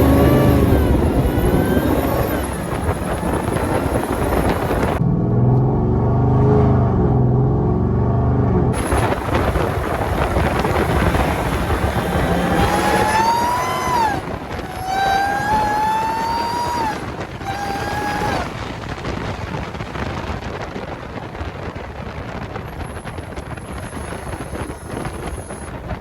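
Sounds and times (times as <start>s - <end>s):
wind noise: 0.0s - 5.1s, 8.5s - 26.0s
supercharger whine: 0.0s - 20.6s, 22.1s - 26.0s
car engine accelerating: 0.0s - 20.9s.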